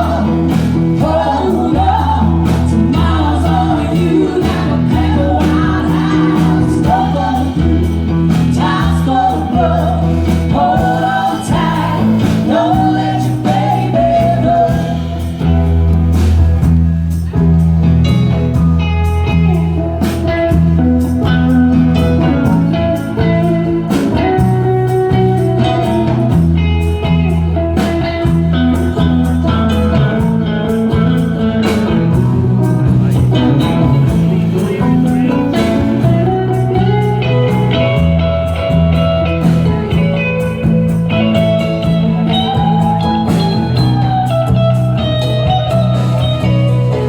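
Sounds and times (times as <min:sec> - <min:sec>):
guitar with bending notes: 0:00.0 - 0:47.0
live band instrumental: 0:00.0 - 0:47.0.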